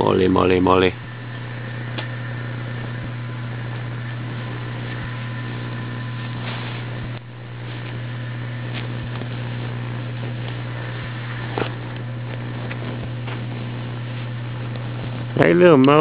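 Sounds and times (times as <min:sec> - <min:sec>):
continuous hiss: 0:00.0 - 0:16.0
low hum: 0:00.0 - 0:16.0.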